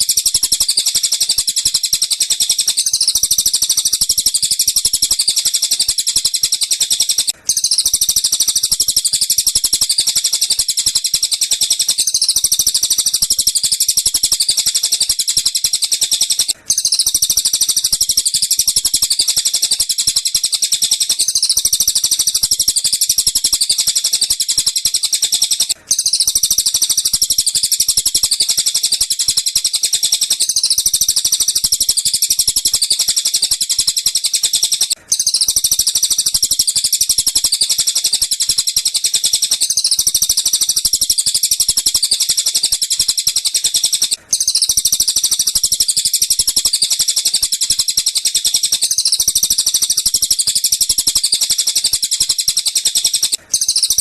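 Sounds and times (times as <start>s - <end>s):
rapid high bird chirps: 0.0s - 54.0s.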